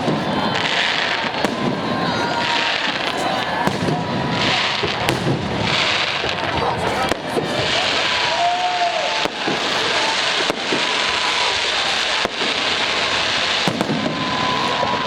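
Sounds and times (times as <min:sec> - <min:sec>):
fireworks crackling: 0:00.0 - 0:15.0
sharp firework bangs: 0:00.0 - 0:15.0.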